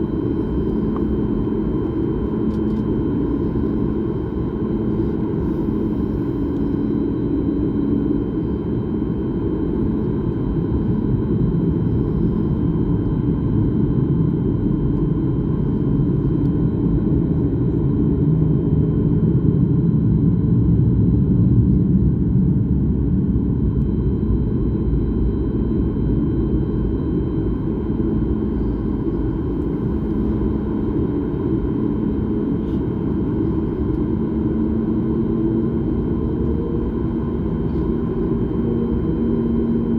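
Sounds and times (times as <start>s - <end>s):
faint steady whines: 0.0s - 39.9s
jet cabin rumble: 0.0s - 39.9s.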